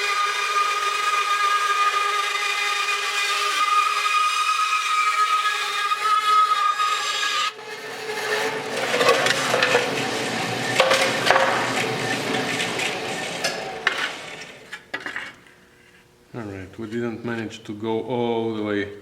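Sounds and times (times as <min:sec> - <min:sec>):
bandsaw whine: 0:00.0 - 0:15.4
bandsaw scraping sheet metal: 0:00.0 - 0:16.0.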